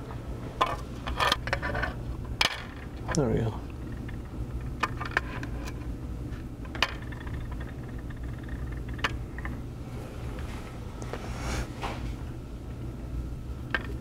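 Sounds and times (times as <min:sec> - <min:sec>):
low equipment hum: 0:00.0 - 0:14.0.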